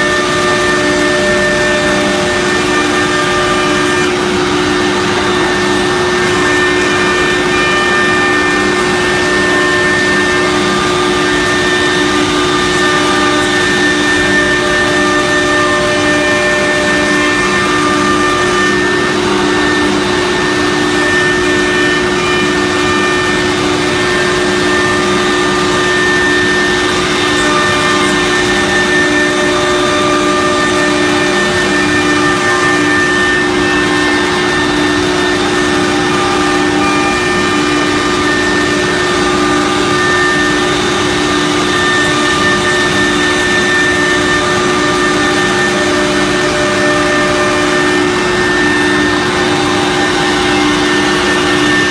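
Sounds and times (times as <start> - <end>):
cutting and dust extraction noise: 0.0 - 51.9
router spindle whine: 0.0 - 51.9.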